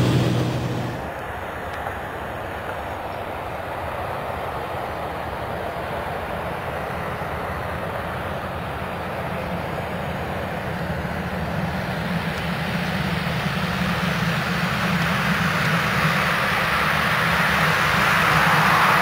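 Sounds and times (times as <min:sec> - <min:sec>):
plane engine and propeller drone: 0:00.0 - 0:19.0.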